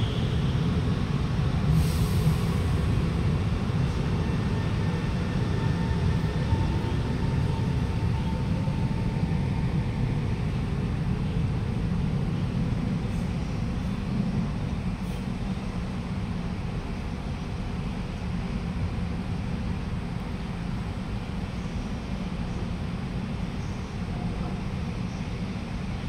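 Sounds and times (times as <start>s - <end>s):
low rumble of train wheels: 0.0s - 26.0s.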